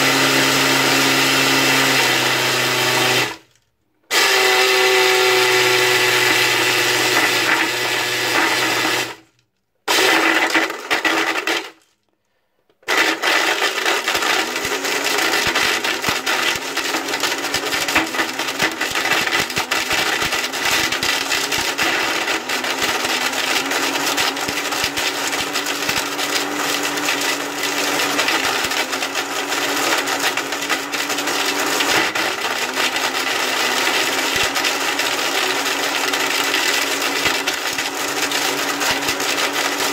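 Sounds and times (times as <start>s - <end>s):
blender motor running: 0.0s - 3.5s, 4.1s - 9.3s, 9.9s - 11.8s, 12.8s - 39.9s.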